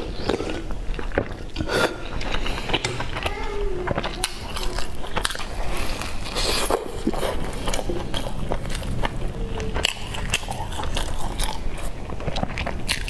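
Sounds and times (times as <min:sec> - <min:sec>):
person chewing bread: 0:00.0 - 0:13.0.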